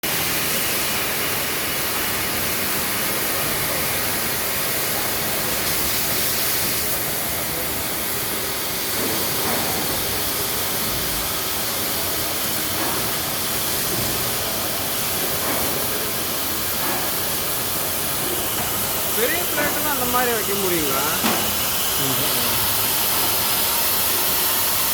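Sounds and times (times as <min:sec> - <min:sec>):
machining centre hissing: 0:00.1 - 0:24.9.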